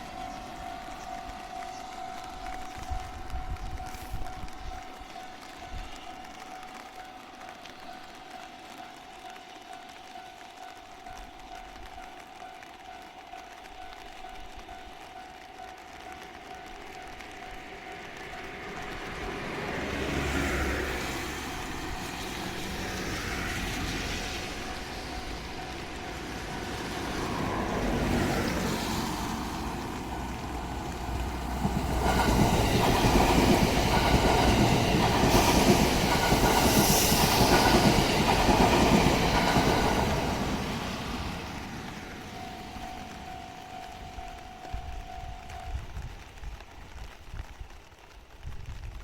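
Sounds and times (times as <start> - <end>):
train wheels clattering on rails: 0.0 - 47.2.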